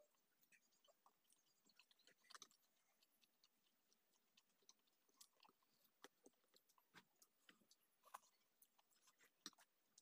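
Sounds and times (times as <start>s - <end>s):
woman chewing: 0.0s - 10.0s.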